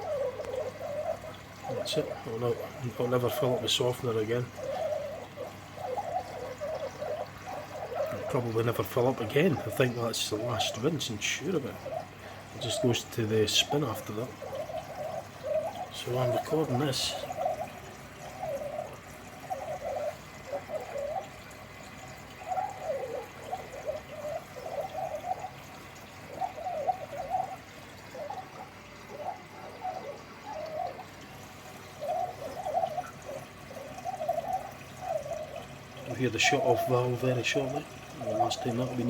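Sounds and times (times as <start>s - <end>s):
faint water rush: 0.0s - 39.0s
water gurgling into washing machine: 0.0s - 39.0s.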